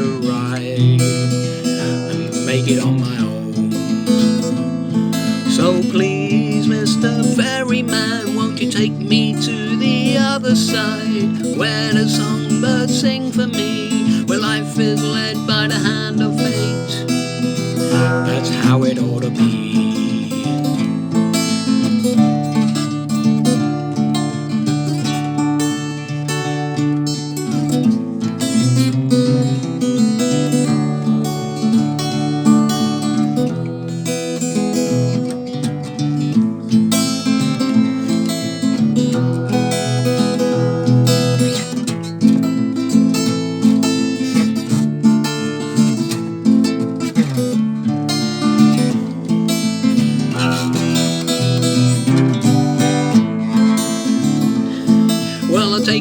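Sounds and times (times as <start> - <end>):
acoustic guitar folk song: 0.0 - 56.0.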